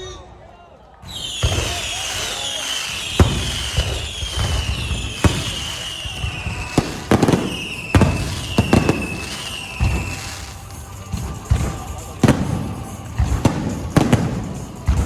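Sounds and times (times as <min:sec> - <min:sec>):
descending firework whistles: 0:01.0 - 0:15.0
fireworks bangs: 0:01.0 - 0:15.0.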